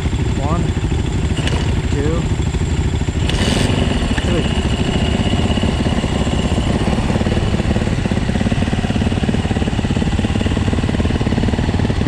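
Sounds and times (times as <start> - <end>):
dirt bike engines idling: 0.0 - 12.0.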